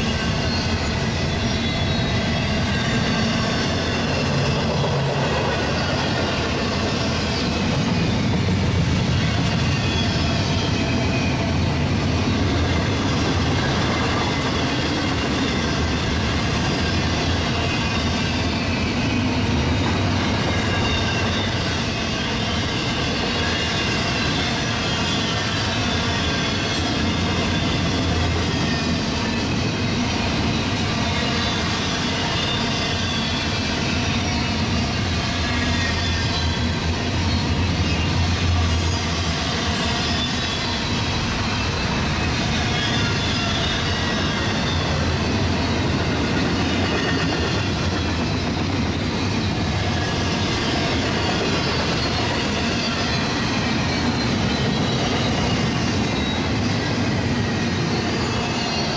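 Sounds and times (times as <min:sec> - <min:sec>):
steel wheels rumbling on rails: 0:00.0 - 0:58.9.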